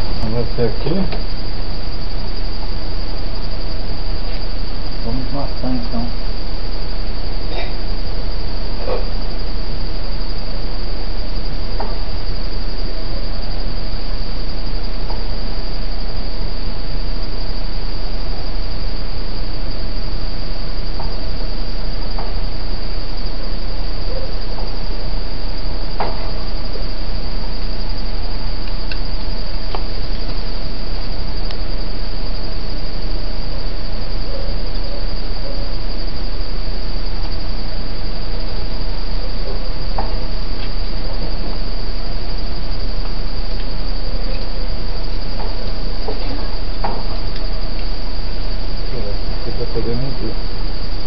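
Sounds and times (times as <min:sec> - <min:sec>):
night insects chirring: 0:00.0 - 0:51.0
steady loud hiss: 0:00.0 - 0:51.0.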